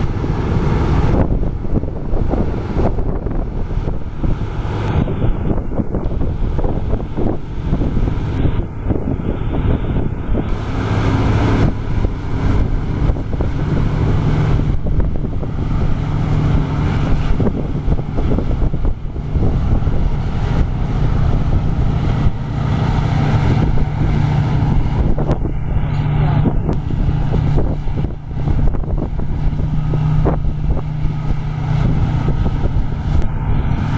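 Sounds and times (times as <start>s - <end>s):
diesel machinery running: 0.0s - 33.9s
wind on microphone: 0.0s - 33.9s.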